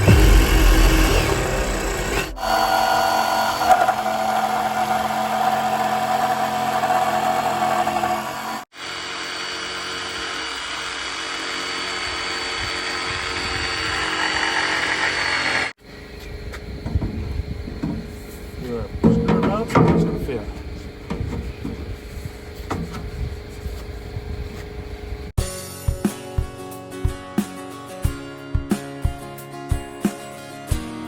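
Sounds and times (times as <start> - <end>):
power tool motor whining: 0.0 - 25.3.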